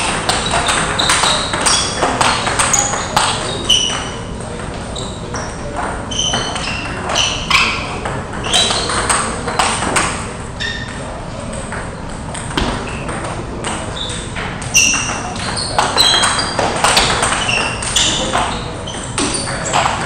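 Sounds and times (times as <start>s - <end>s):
table tennis balls clicking: 0.0s - 20.0s.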